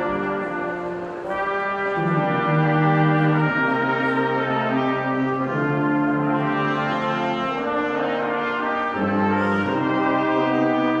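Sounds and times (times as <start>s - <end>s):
brass ensemble playing chords: 0.0s - 11.0s.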